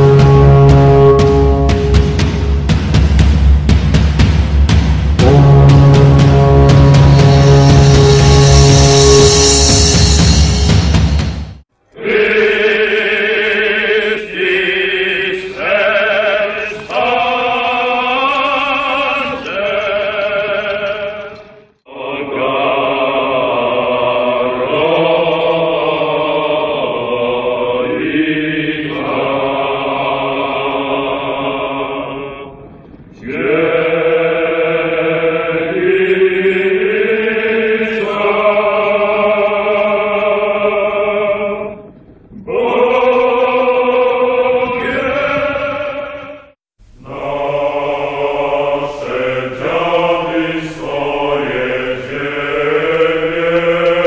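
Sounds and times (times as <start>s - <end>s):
choir singing slow chant: 0.0s - 2.8s, 5.2s - 11.0s, 11.9s - 54.0s.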